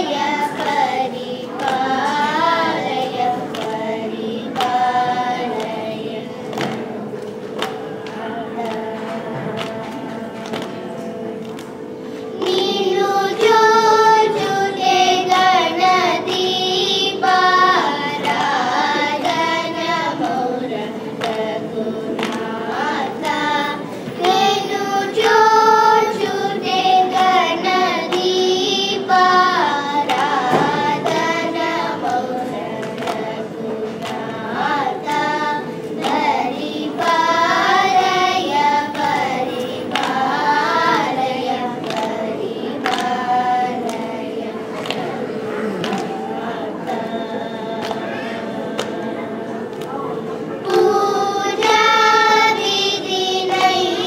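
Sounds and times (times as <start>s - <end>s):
girls singing in unison: 0.0s - 54.0s
tanpura drone: 0.0s - 54.0s.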